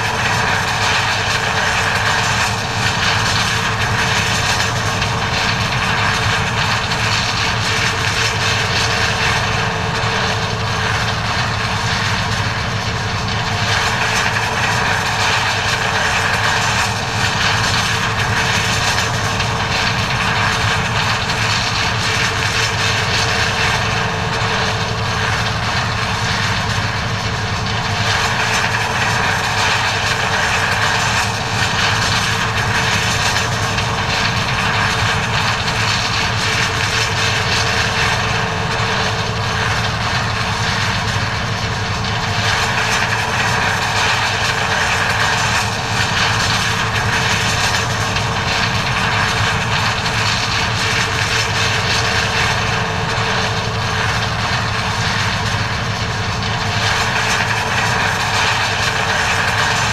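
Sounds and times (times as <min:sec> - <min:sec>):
combine harvester engine drone: 0:00.0 - 0:59.9
machinery whine: 0:00.0 - 0:59.9.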